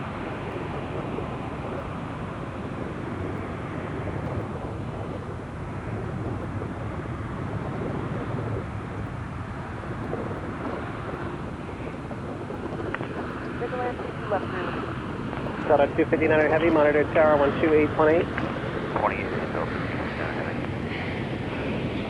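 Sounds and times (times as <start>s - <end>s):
jet airliner engines rushing: 0.0s - 22.0s.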